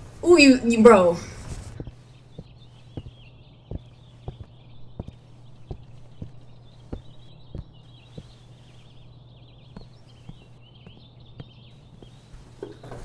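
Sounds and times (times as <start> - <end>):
low steady hum: 0.0 - 13.0
faint high chirping: 0.2 - 13.0
footsteps on hard floor: 1.4 - 13.0.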